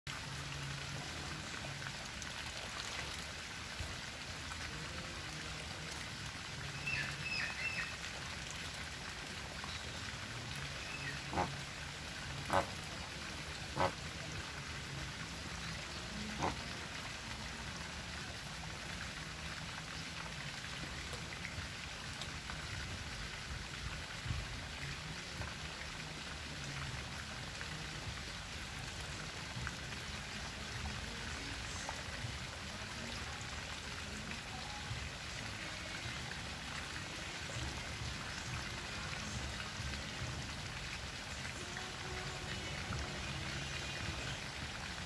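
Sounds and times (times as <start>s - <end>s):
steady outdoor hiss: 0.1s - 45.0s.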